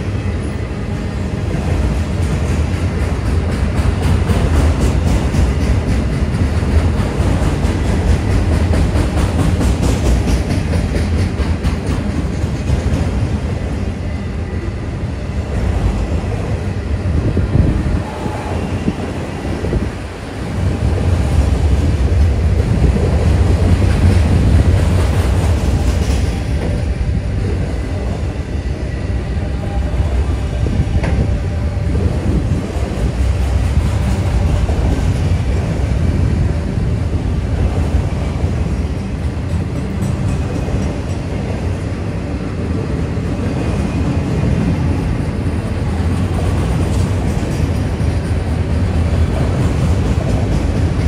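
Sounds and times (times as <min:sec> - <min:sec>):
freight cars rumbling on rail: 0:00.0 - 0:51.0.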